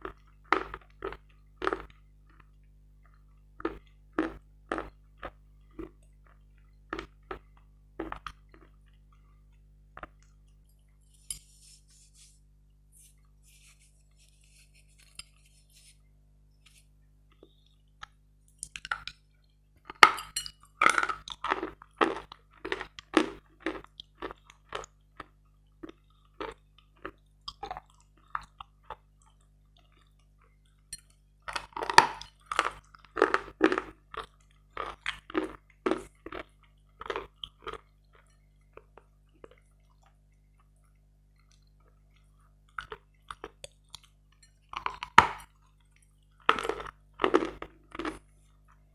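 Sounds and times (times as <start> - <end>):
crunching and chewing chalk: 0.0 - 11.6, 16.6 - 48.9.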